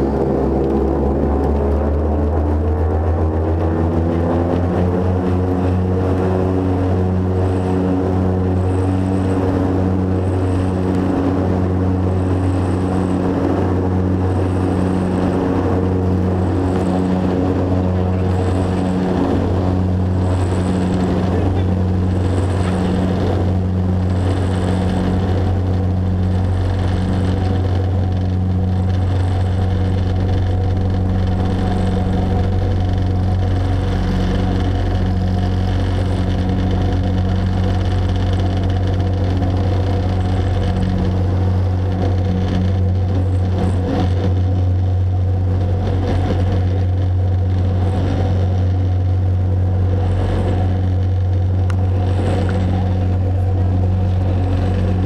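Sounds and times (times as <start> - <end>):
propeller engine drone in cabin: 0.0 - 55.0.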